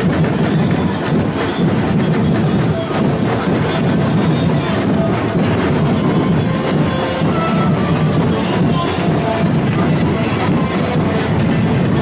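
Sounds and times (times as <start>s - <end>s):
loud carnival parade music: 0.0s - 12.0s.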